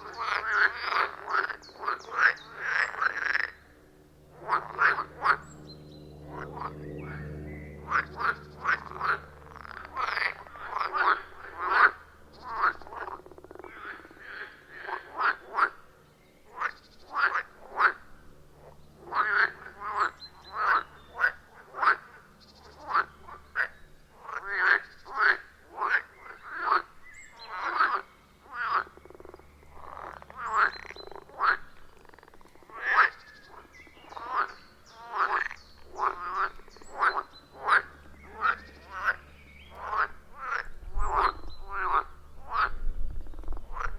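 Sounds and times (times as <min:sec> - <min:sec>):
frogs croaking: 0:00.0 - 0:43.9.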